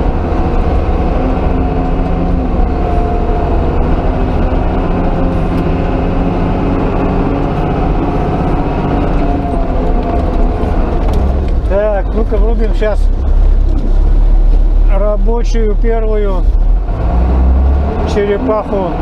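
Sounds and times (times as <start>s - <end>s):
loader diesel engine running: 0.0s - 19.0s.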